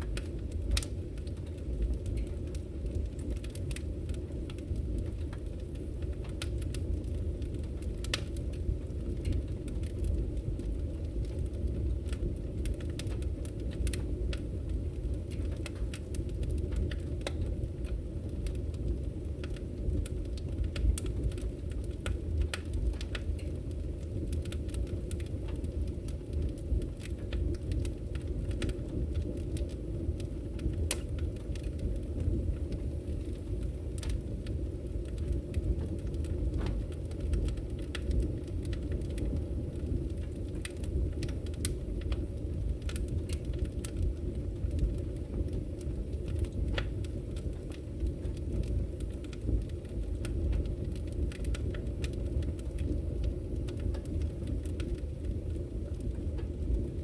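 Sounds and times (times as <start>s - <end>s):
fire flames rumbling: 0.0s - 57.0s
wood crackling and popping: 0.0s - 57.0s.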